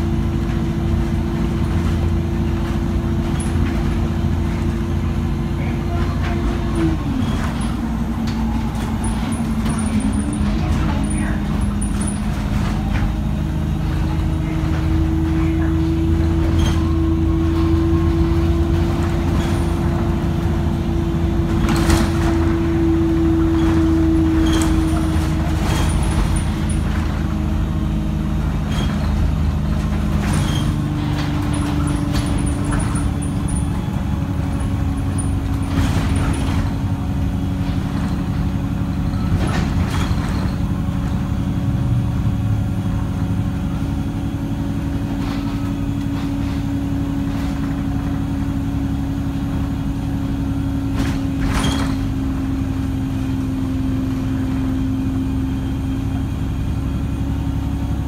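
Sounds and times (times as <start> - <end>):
bus body rattles and knocks: 0.0 - 58.0
bus engine drone: 0.0 - 58.0.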